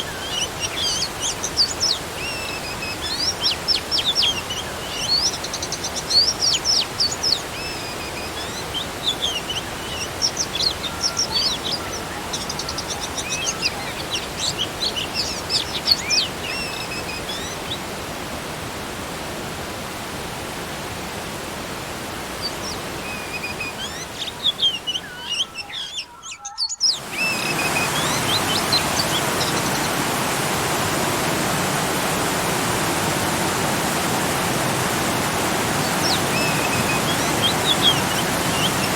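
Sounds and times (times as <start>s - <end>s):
birds chirping: 0.0s - 18.0s, 22.2s - 38.9s
small waterfall rushing: 0.0s - 26.0s, 26.8s - 38.9s.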